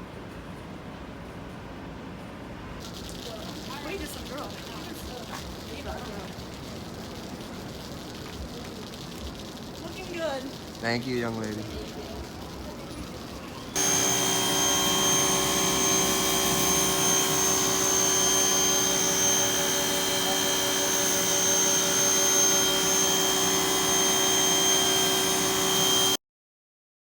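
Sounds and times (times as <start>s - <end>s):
pressure washer running: 2.8s - 26.2s.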